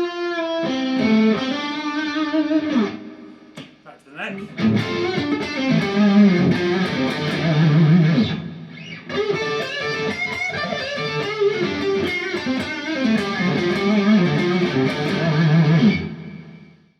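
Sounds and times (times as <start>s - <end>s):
distorted electric guitar: 0.0s - 16.8s.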